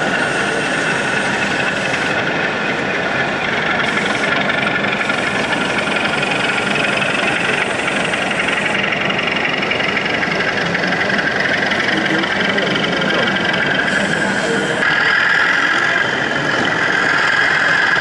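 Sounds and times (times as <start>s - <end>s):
busy exhibition hall noise: 0.0s - 18.0s
model diesel locomotive running: 0.0s - 18.0s.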